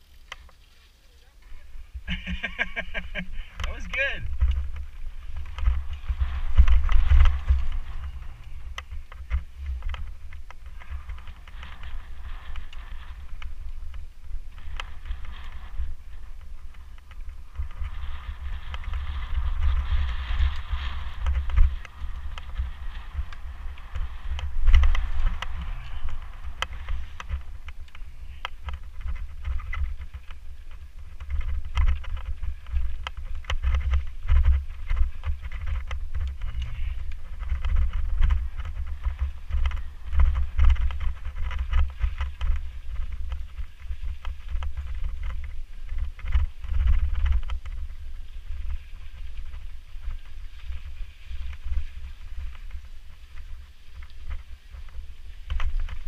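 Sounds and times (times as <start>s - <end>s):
wind buffeting microphone: 1.4s - 56.0s
bike clicks and rattles: 2.1s - 56.0s.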